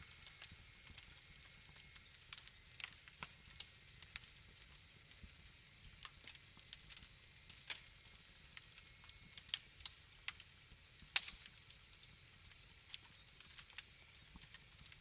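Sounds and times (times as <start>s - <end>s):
faint steady hiss: 0.0s - 15.0s
wood fire crackling: 0.0s - 15.0s.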